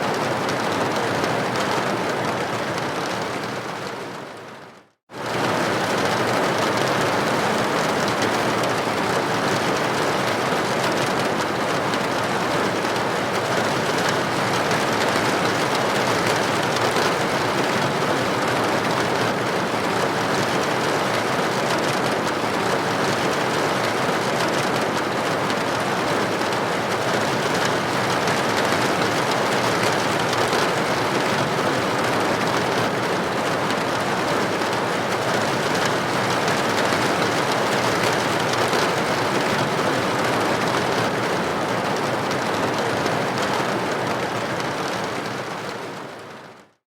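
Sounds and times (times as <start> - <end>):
rain on a window: 0.0 - 46.8.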